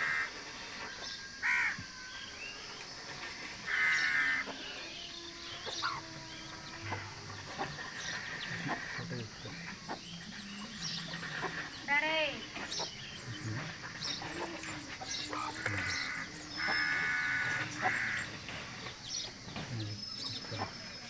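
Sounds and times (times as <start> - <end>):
harsh bird caws: 0.0 - 19.6
faint bird chirps: 0.0 - 21.0.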